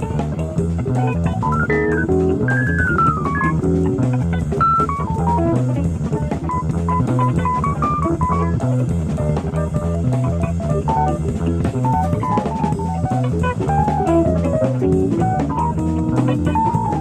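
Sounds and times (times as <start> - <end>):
drum kit: 0.0 - 17.0
electric bass: 0.0 - 17.0
electric guitar fast runs: 0.0 - 17.0.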